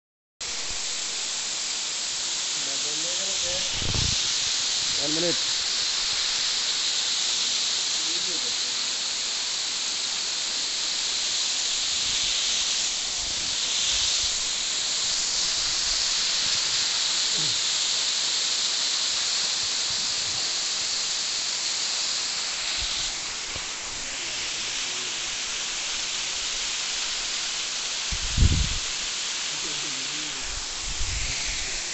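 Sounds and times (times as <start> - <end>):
waterfall rushing: 0.4 - 31.9.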